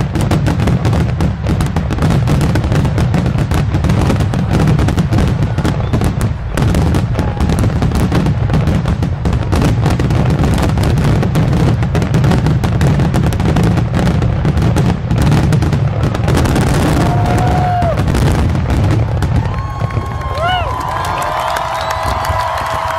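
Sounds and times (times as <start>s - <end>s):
fireworks booming and crackling: 0.0s - 22.9s.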